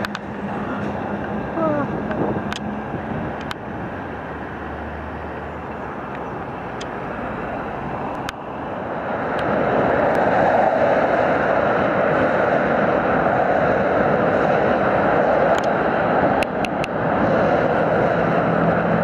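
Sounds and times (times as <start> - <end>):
heavy truck: 0.0 - 19.0
motorway traffic noise: 0.0 - 19.0.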